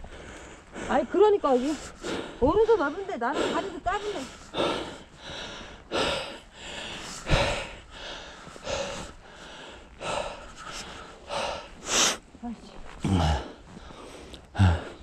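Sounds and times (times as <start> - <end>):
person breathing hard: 0.0 - 12.2, 13.0 - 15.0.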